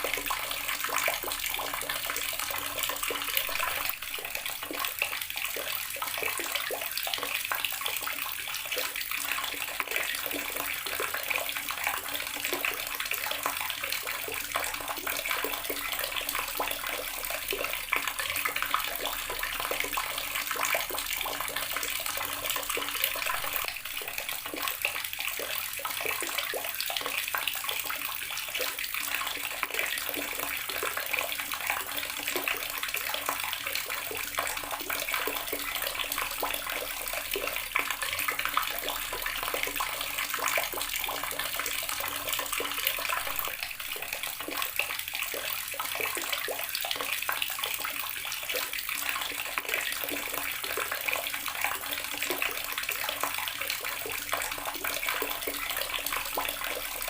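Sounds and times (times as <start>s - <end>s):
water splashing from a tap: 0.0s - 57.0s.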